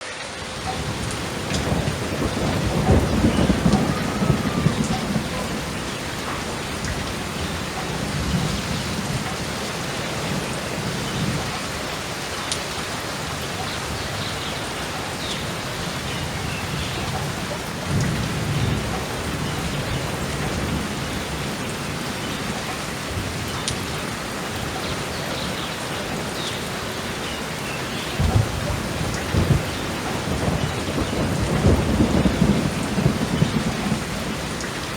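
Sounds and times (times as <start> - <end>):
steady rain falling: 0.0 - 34.9
thunder rumbling: 0.5 - 34.9.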